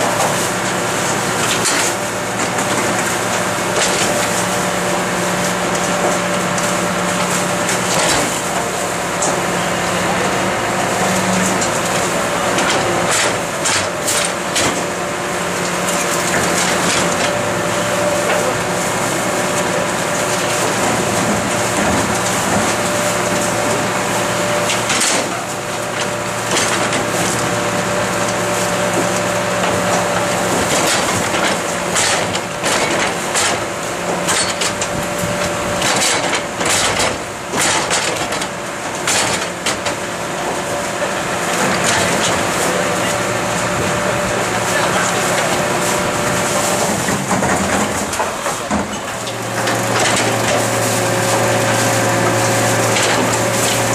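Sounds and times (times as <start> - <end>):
garbage truck hydraulics humming: 0.0 - 53.9
bins clanking: 0.1 - 53.9.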